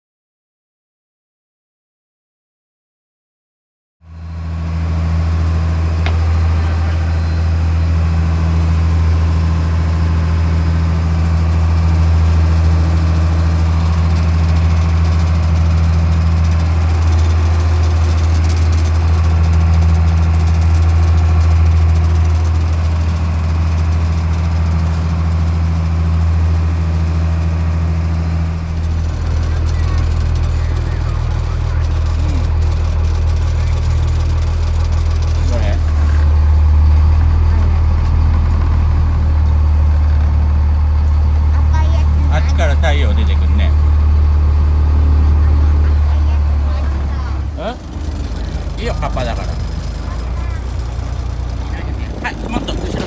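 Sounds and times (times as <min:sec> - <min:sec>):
engine running steadily: 0:04.1 - 0:53.0.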